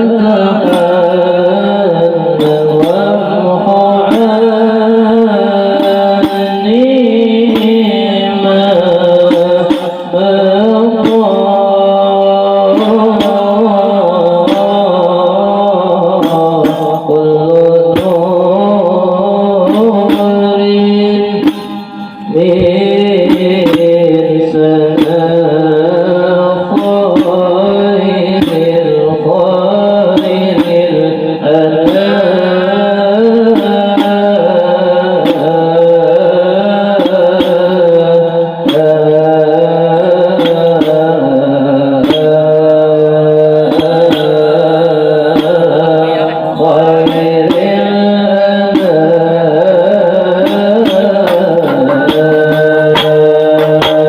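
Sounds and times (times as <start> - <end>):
hand drums beating: 0.1 - 54.0.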